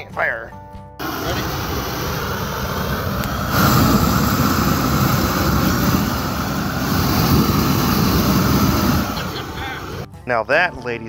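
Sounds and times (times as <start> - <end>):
blow torch flame blasting: 1.0 - 10.1.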